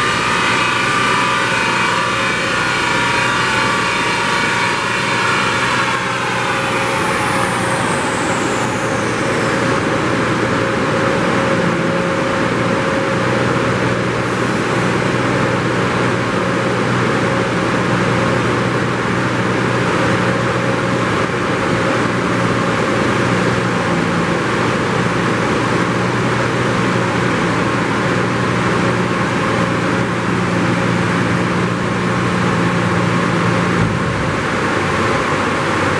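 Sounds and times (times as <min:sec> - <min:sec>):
car engine on dyno: 0:00.0 - 0:35.9
constant low hum: 0:00.0 - 0:35.9.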